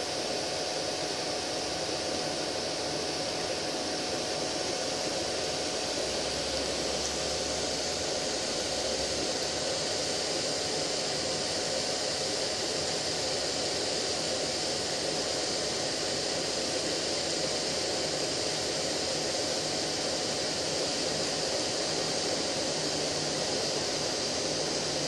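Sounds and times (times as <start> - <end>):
printer fans hissing: 0.0 - 25.0.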